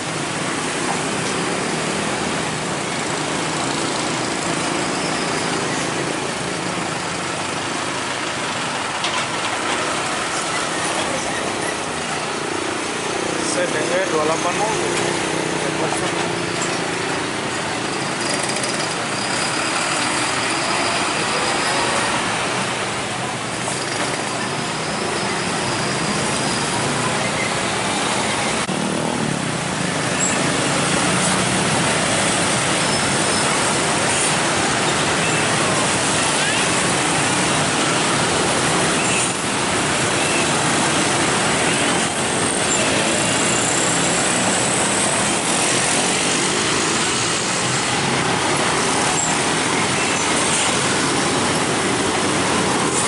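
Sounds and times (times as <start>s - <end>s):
heavy trucks passing: 0.0s - 53.0s
motorcycles passing: 0.0s - 53.0s.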